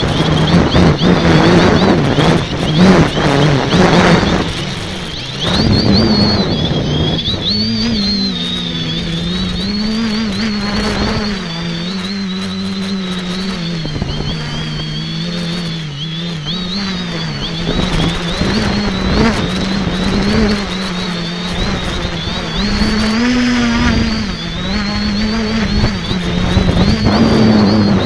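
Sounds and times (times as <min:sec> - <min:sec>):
drone motors buzzing and whining: 0:00.0 - 0:28.0
wind buffeting on microphone: 0:00.0 - 0:28.0.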